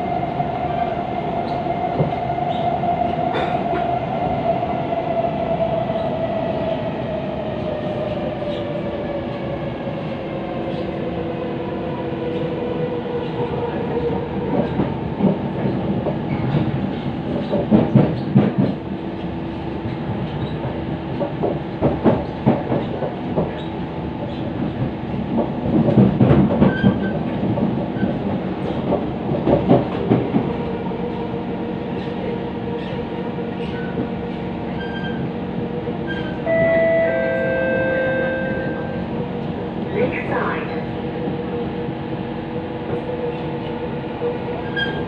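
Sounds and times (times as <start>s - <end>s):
train running gear rumble: 5.2s - 45.0s.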